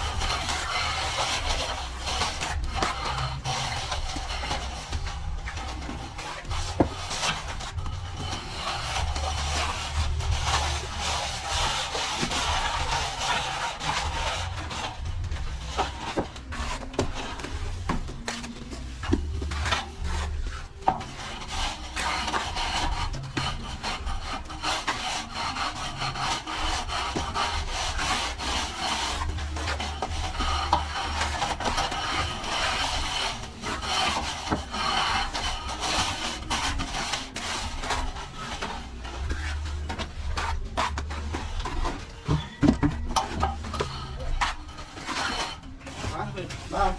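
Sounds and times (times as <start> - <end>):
plastering tool scraping wet plaster: 0.0 - 46.9.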